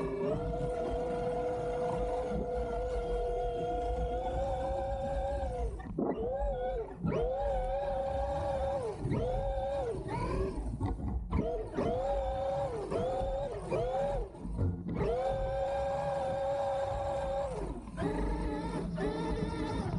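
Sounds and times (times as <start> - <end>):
electric motor whine: 0.0 - 19.9.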